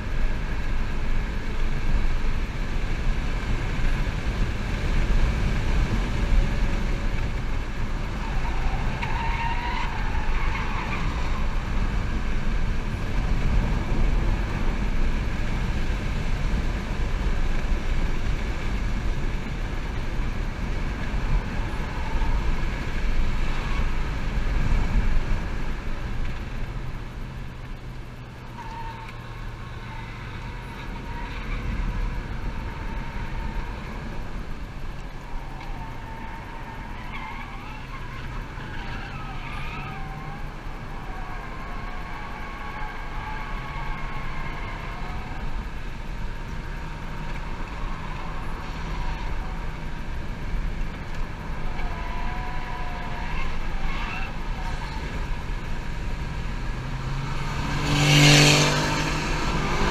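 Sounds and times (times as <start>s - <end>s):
road tyre and wind noise: 0.0s - 59.9s.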